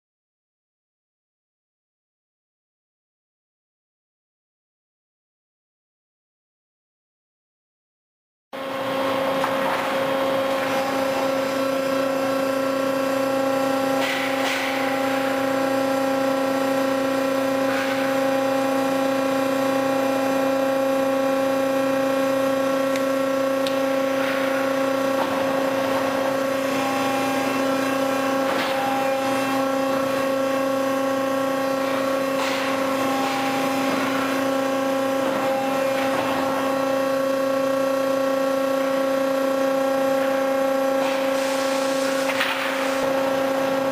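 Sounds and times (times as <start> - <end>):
machinery whine and hum: 8.6 - 43.9.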